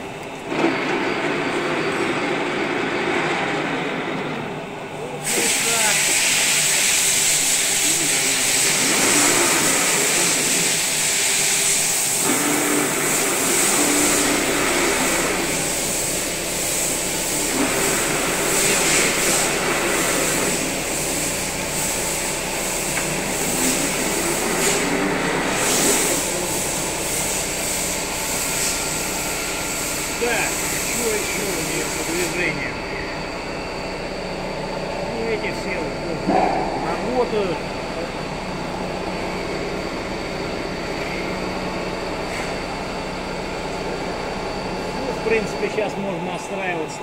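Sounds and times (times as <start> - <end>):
lathe running with mechanical whine: 0.0 - 47.0.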